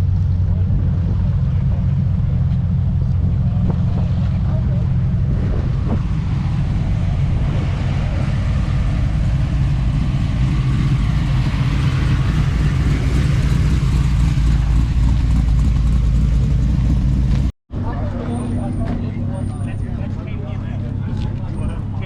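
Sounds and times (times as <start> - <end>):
car engine low rumble: 0.0 - 22.0.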